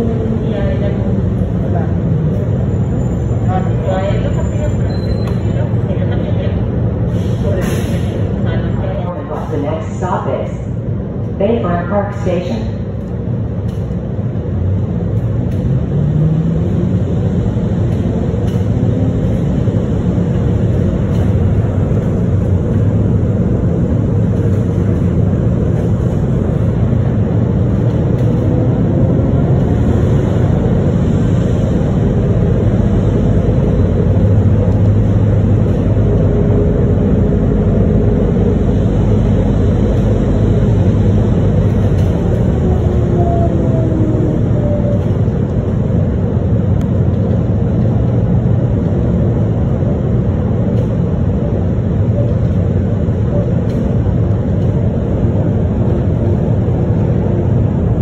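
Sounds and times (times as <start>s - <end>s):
people-mover car rumbling on guideway: 0.0s - 58.0s.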